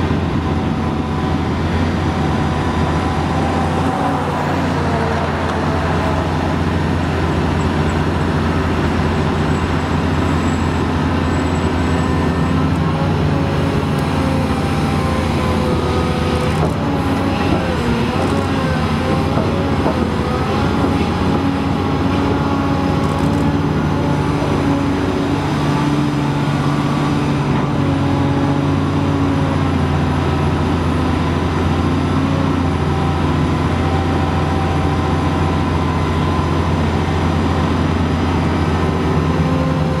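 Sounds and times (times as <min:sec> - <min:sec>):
excavator diesel engine under load: 0:00.0 - 0:40.0.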